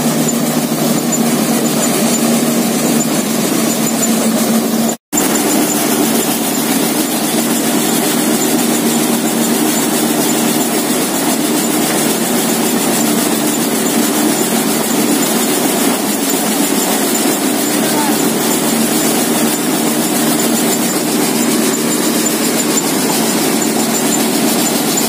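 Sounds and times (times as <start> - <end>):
thresher running: 0.0 - 25.0
tractor engine running: 0.0 - 25.0.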